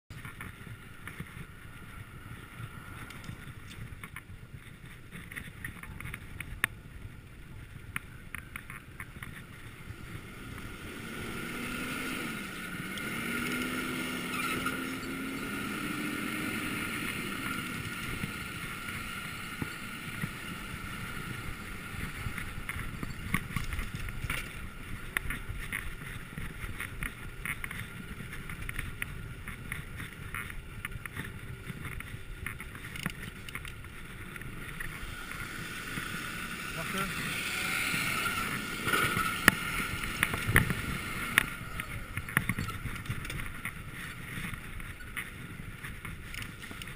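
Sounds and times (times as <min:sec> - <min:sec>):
bicycle road noise: 0:00.1 - 0:46.9
wind over microphone: 0:00.1 - 0:46.9.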